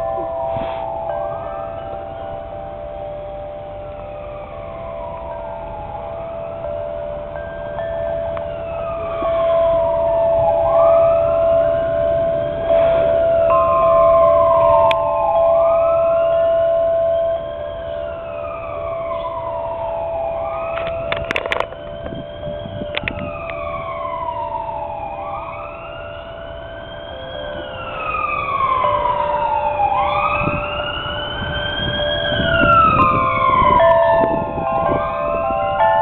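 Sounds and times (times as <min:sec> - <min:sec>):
emergency vehicle sirens wailing: 0:00.0 - 0:36.0.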